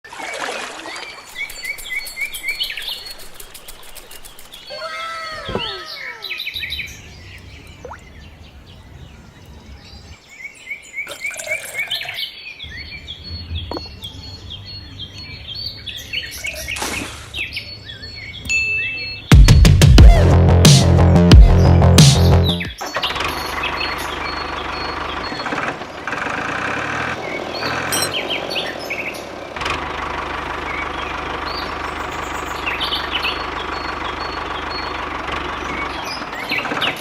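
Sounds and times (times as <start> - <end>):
birds chirping and calling: 0.2 - 19.7, 21.6 - 37.0.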